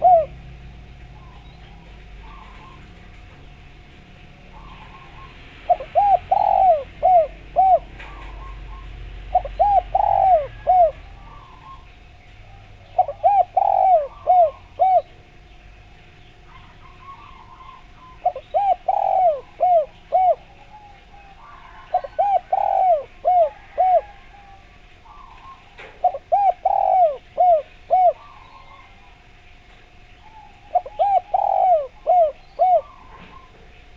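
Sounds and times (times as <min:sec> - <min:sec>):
dove cooing: 0:00.0 - 0:33.9
small birds chirping: 0:00.0 - 0:33.9.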